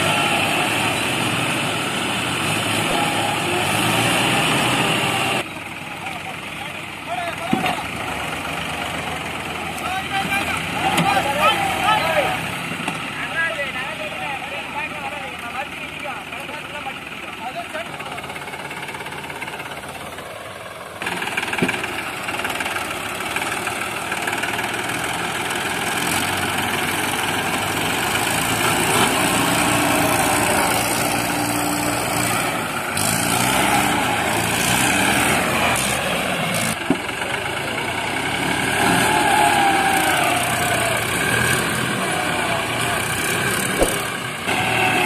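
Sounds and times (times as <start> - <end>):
diesel tractor engines running: 0.0 - 45.0.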